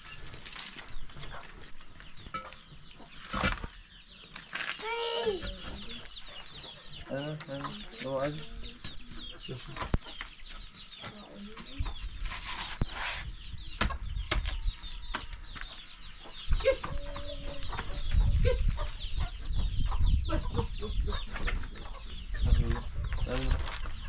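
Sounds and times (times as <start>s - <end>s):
chickens clucking: 0.9s - 24.0s.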